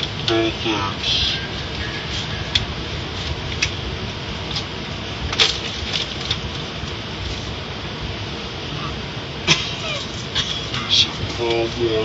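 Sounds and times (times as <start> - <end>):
car wash hiss and rumble: 0.0 - 12.0.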